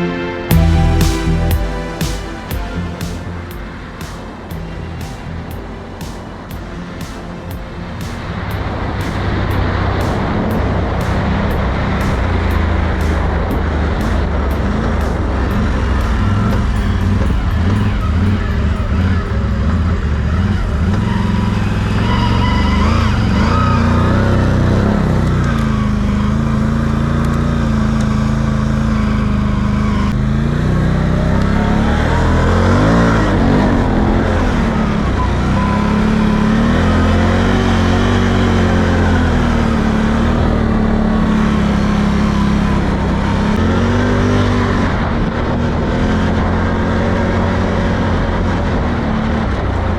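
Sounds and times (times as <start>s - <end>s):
atv engine revving: 8.2s - 49.9s.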